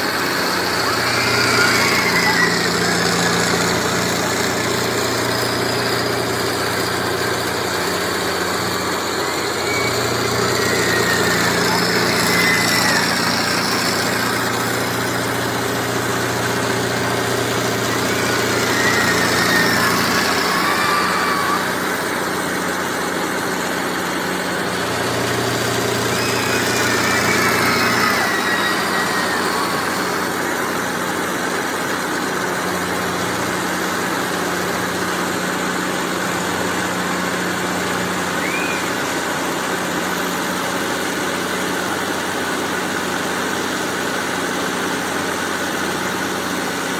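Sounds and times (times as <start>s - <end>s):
fairground ride machinery rumble: 0.0s - 46.9s.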